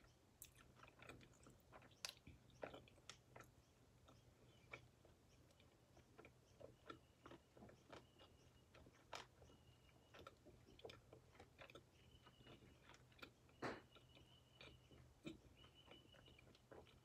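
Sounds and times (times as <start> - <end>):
chewing with clicks and smacks: 0.0 - 17.0.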